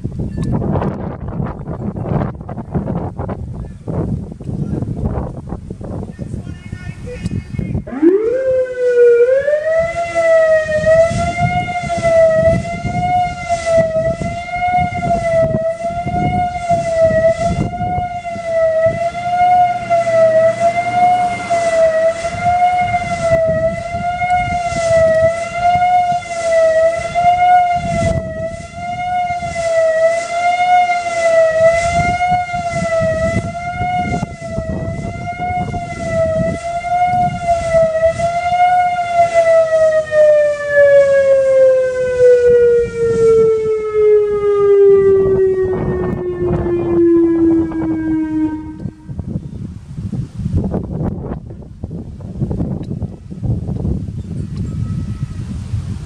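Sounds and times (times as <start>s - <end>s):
wavering warning siren: 0.4s - 4.0s, 5.0s - 56.0s.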